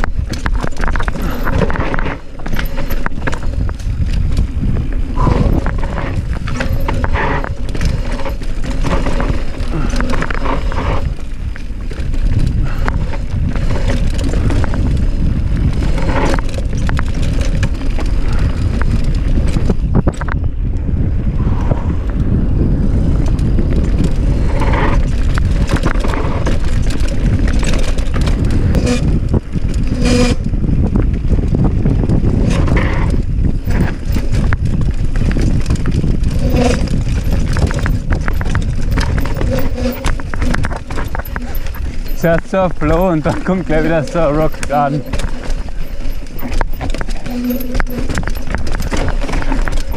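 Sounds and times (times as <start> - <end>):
bike frame and chain clattering: 0.0 - 21.0, 21.7 - 49.9
wind on microphone: 0.0 - 49.9.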